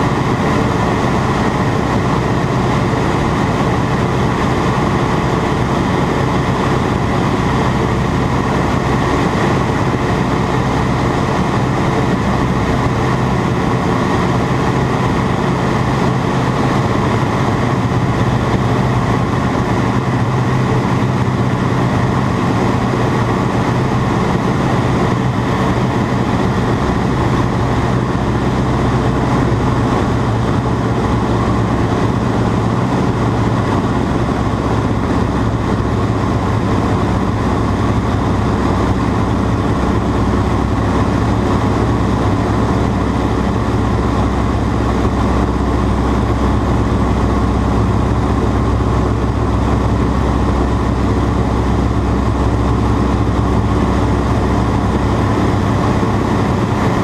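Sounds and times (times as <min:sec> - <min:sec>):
biplane engine loud drone: 0:00.0 - 0:57.0.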